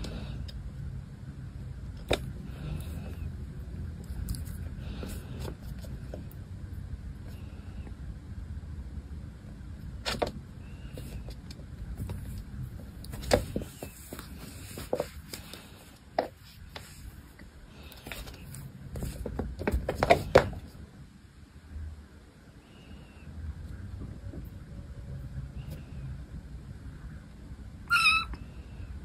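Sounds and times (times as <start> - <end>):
low background rumble: 0.0 - 29.0.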